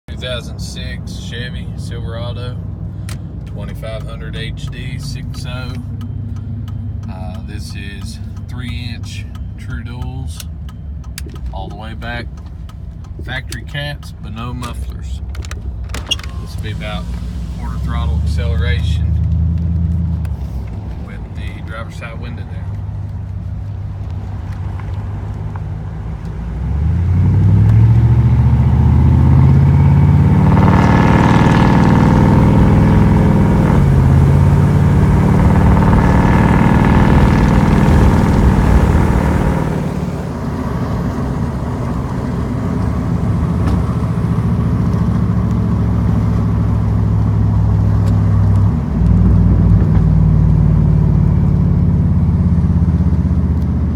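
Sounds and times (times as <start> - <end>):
truck engine exhaust accelerating: 0.1 - 53.9.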